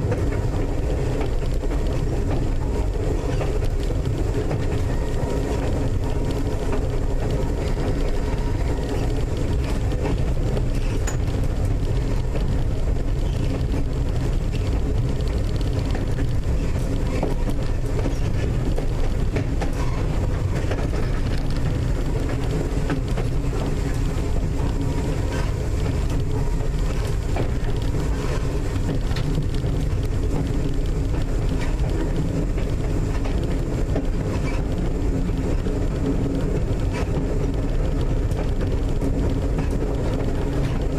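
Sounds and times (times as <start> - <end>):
wheels rumbling on rail: 0.0 - 40.9.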